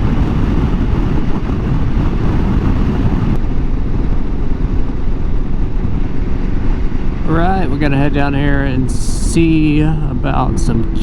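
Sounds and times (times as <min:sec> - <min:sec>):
motorcycle engine droning: 0:00.0 - 0:11.0
wind and road noise: 0:00.0 - 0:11.0.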